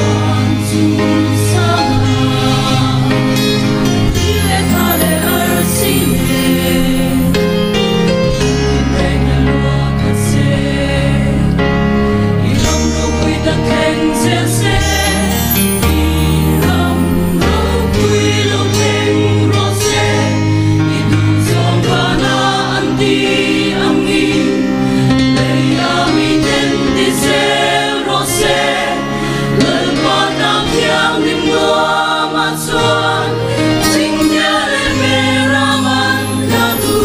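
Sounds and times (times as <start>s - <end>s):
mixed choir singing in parts: 0.0s - 37.0s.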